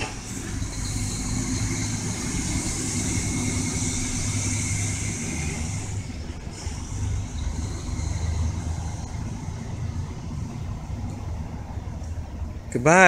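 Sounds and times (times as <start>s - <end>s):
high hiss: 0.0s - 11.7s
vehicle engine running: 0.0s - 12.7s
faint high whine: 0.0s - 13.0s.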